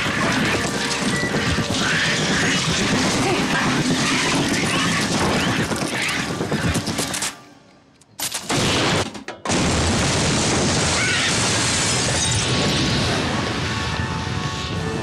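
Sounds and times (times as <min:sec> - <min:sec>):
fire and explosion blast: 0:00.0 - 0:07.0, 0:08.5 - 0:15.0.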